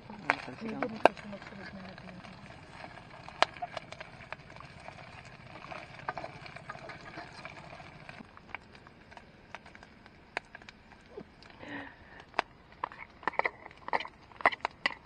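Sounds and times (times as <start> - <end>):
meat frying in oil: 0.0 - 15.0
sharp pops and clicks: 0.2 - 15.0.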